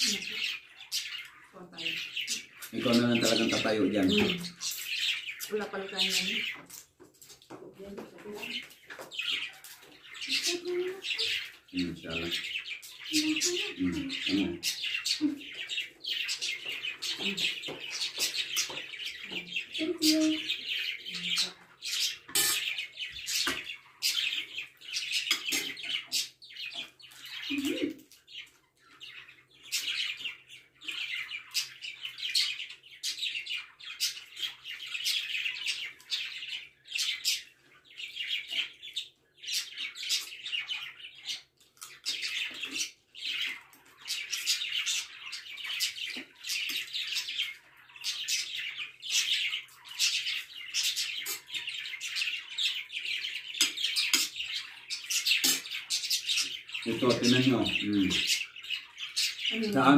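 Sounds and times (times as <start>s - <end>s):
pet birds chirping: 0.0s - 59.9s.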